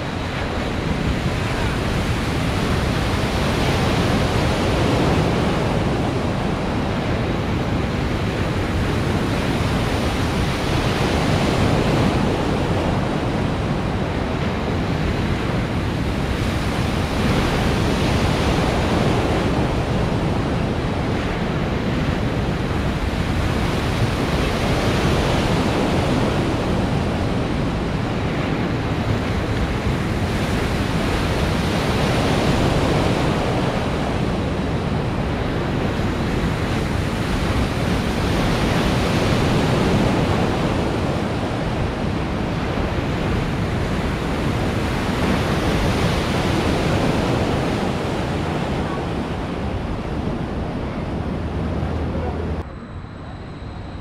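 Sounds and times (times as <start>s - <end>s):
waves rushing and breaking: 0.0s - 52.7s.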